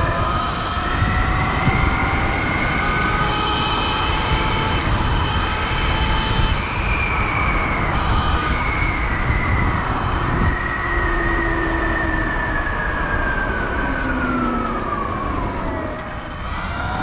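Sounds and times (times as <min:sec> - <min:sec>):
electric motor whine: 0:00.0 - 0:17.0
wind on microphone: 0:00.0 - 0:17.0.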